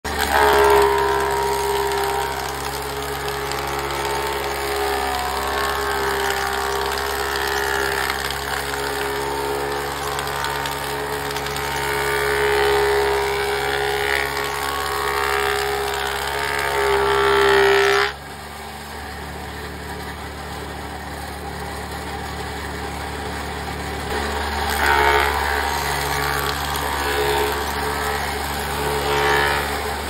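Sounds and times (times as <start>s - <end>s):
wood planer whining hum: 0.0s - 30.0s.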